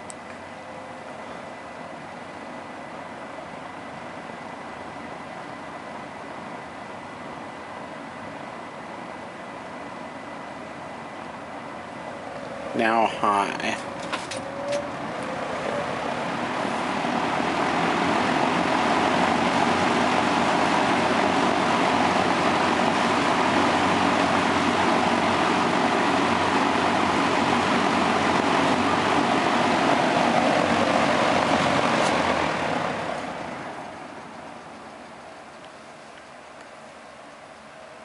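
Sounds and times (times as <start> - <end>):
box fan rushing air: 0.0 - 38.0.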